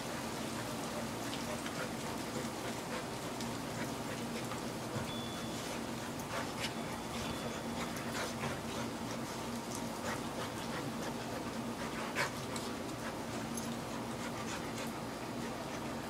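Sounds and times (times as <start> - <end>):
dogs panting: 0.0 - 16.0
dogs scuffling: 0.0 - 16.0.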